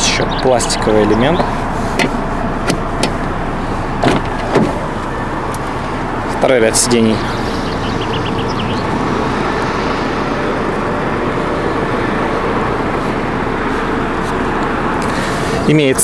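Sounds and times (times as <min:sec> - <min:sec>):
background traffic rumble: 0:00.0 - 0:16.0.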